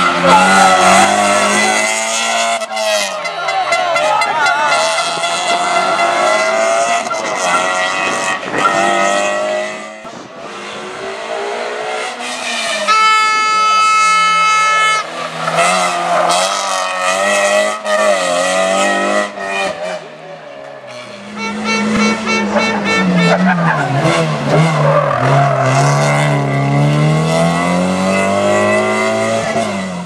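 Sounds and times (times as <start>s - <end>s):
rally cars revving past: 0.0s - 3.1s, 4.6s - 12.9s, 15.0s - 30.0s.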